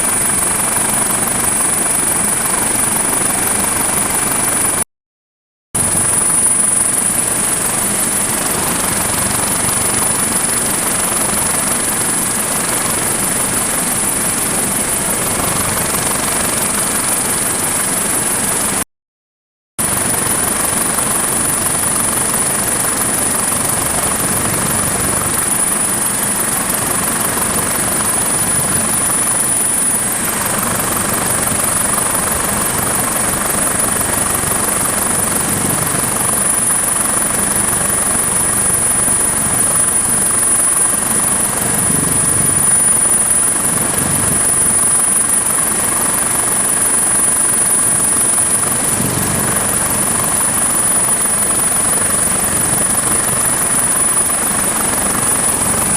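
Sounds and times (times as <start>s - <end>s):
helicopter rotor and engines: 0.0s - 4.9s, 5.8s - 18.9s, 19.8s - 55.9s.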